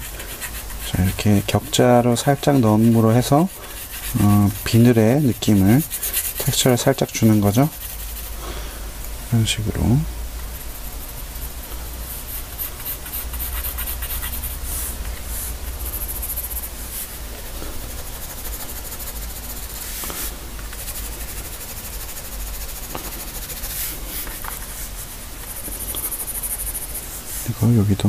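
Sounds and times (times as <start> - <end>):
pencil scratching on paper: 0.0 - 8.4, 12.1 - 27.6.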